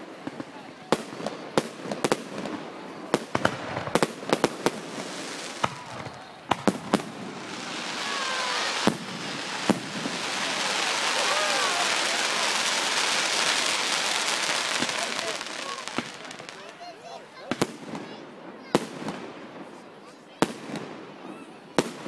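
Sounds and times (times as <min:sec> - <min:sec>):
fireworks bangs: 0:00.0 - 0:19.8, 0:20.4 - 0:22.0
fireworks crackle: 0:00.0 - 0:19.8.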